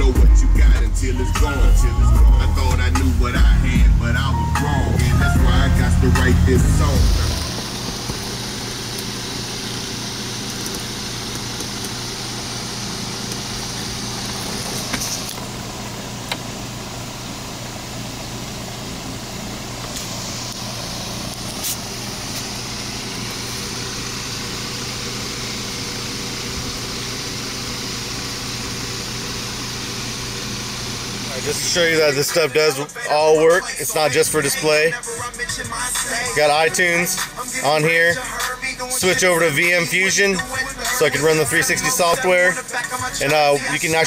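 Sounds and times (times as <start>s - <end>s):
vehicle idling inside cabin: 0.0s - 44.0s.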